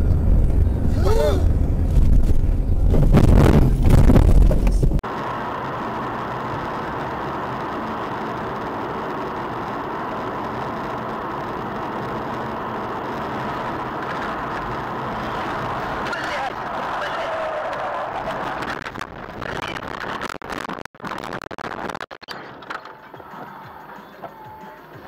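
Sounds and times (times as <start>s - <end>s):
car driving hum: 0.0s - 21.9s
car rumbling through snow: 0.0s - 22.6s.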